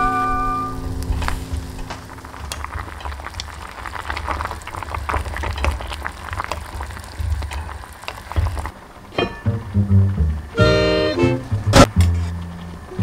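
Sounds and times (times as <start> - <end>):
water boiling with bursting bubbles: 0.0 - 10.8
steady low rumble: 0.0 - 13.0.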